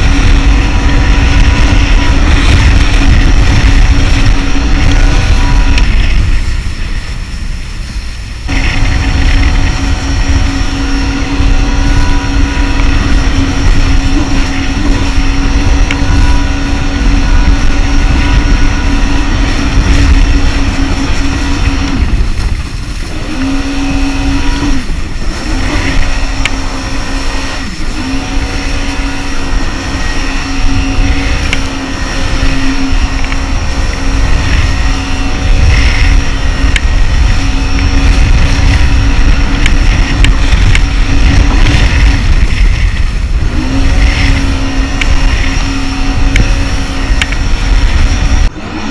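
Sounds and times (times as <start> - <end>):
jet ski engine droning: 0.0 - 48.9.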